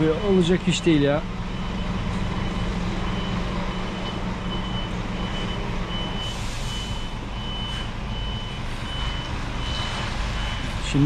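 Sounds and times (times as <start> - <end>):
diesel engine running: 0.0 - 11.0
truck reversing alarm beeps: 0.0 - 11.0.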